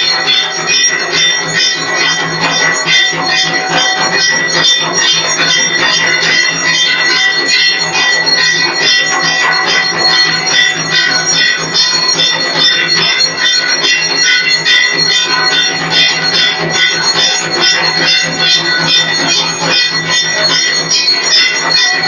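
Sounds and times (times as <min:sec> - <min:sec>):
bells ringing: 0:00.0 - 0:22.0.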